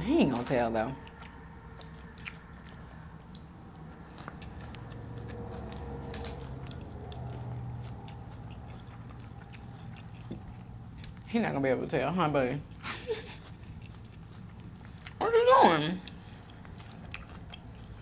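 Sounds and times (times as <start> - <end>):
faint low hum: 0.0 - 18.0
chewing food: 0.2 - 11.4, 12.6 - 15.2, 15.9 - 18.0.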